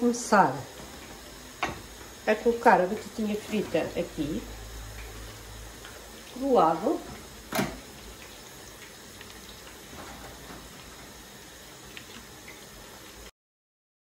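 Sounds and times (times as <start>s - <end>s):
potatoes sizzling in oil: 0.0s - 13.3s.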